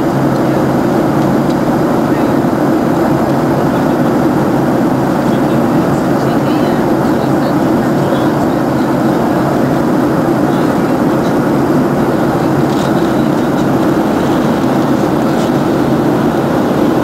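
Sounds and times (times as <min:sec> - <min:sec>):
airflow rushing past fuselage: 0:00.0 - 0:17.0
jet engine noise: 0:00.0 - 0:17.0.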